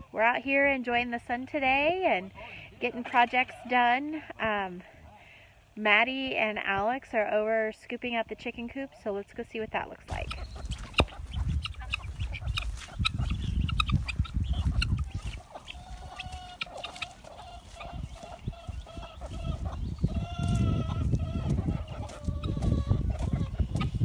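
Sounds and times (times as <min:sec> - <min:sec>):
chickens clucking: 0:00.9 - 0:05.8, 0:08.1 - 0:24.0.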